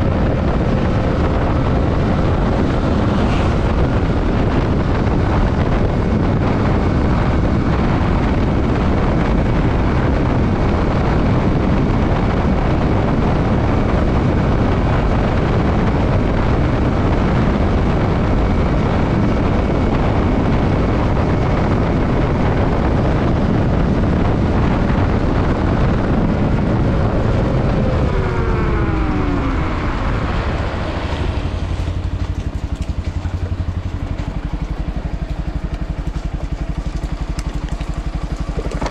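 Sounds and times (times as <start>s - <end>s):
motorcycle engine: 0.0s - 38.9s
wind rush on microphone: 0.0s - 38.9s.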